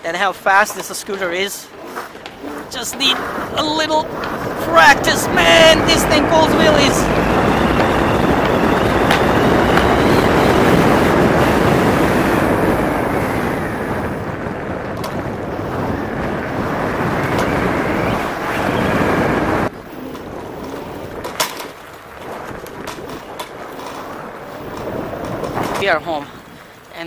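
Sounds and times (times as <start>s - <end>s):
scooter tyre noise: 0.3s - 27.0s
wind buffeting microphone: 1.7s - 27.0s.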